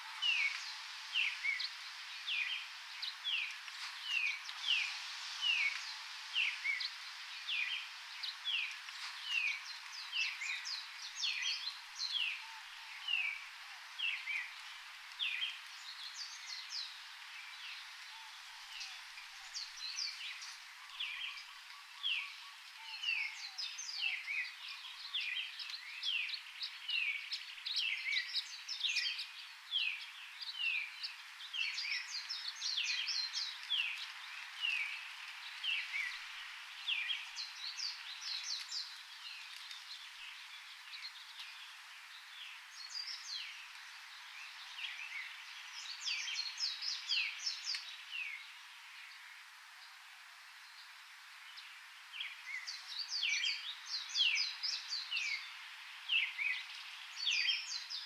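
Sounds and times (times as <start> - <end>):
songbirds chirping: 0.0 - 58.0
steady background hiss: 0.0 - 58.0.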